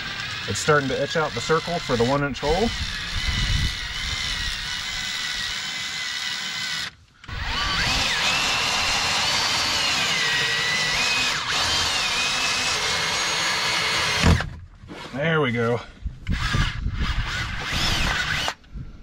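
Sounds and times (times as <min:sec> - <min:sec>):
cordless drill boring through plastic: 0:00.0 - 0:15.2, 0:16.2 - 0:18.7.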